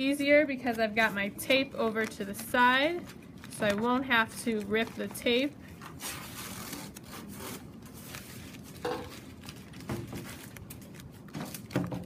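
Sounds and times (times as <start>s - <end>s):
newspaper rustling and crinkling: 0.2s - 12.0s.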